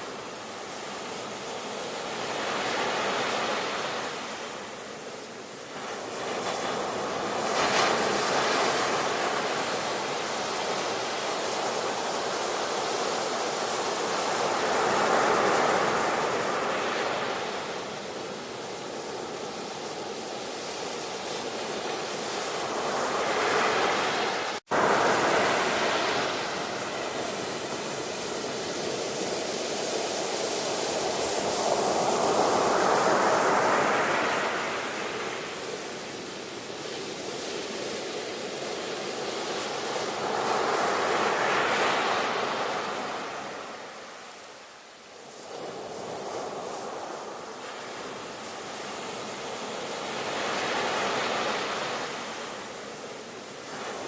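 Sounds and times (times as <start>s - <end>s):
waves washing in and drawing back: 0.0s - 54.0s.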